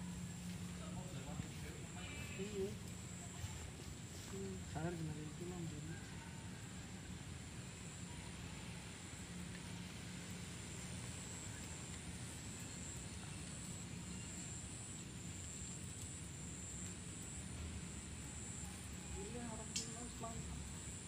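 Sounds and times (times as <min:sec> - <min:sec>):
faint background hum and hiss: 0:00.0 - 0:21.0.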